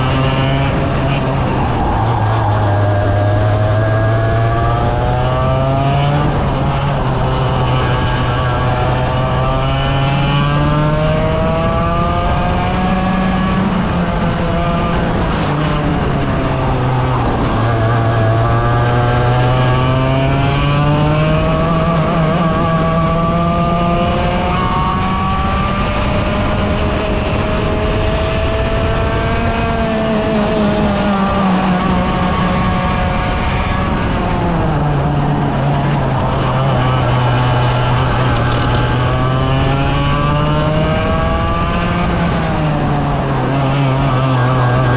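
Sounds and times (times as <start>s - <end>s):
racing kart engine at full throttle: 0.0s - 44.9s.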